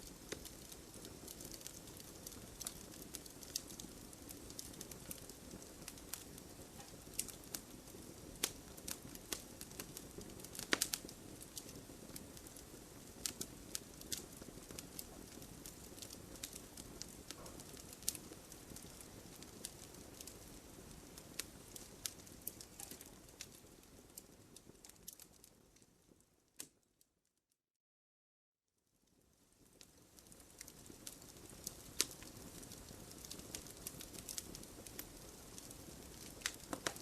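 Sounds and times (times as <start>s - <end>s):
logs crackling and popping: 0.0s - 26.8s, 29.1s - 37.0s
low noise of flames: 0.0s - 27.0s, 28.7s - 37.0s.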